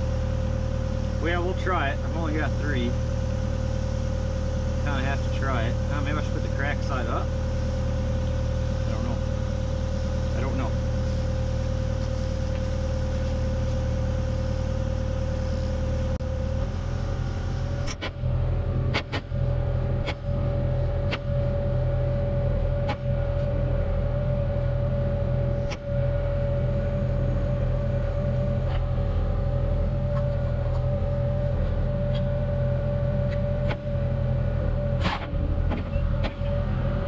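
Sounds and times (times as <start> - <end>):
excavator diesel engine running: 0.0 - 37.0
high whine: 0.0 - 37.0.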